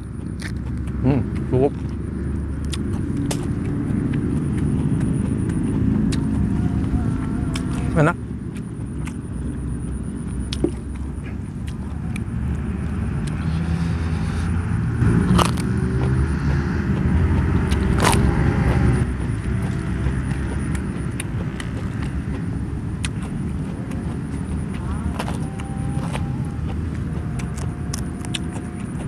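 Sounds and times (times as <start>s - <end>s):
crunchy biting and chewing: 0.0s - 29.0s.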